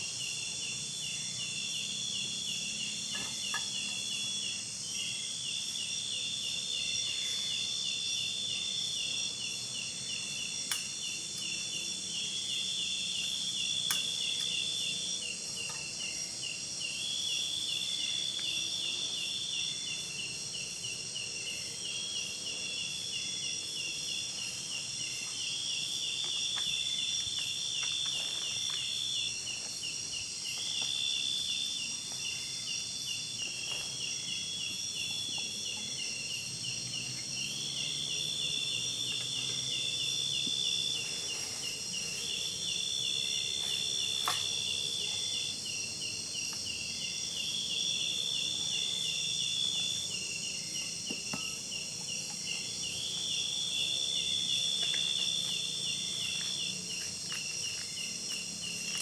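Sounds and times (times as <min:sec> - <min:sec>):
high insect trill: 0:00.0 - 0:59.0
insects hissing: 0:00.0 - 0:59.0
pulsing insect chirp: 0:00.0 - 0:59.0.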